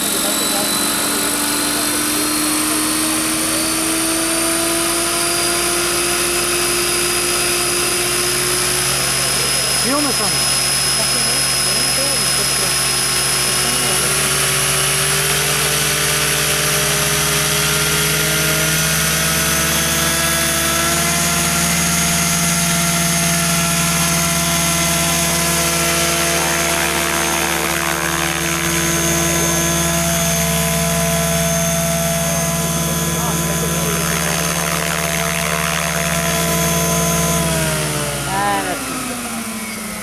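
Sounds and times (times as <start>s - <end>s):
model helicopter whining hum: 0.0s - 40.0s.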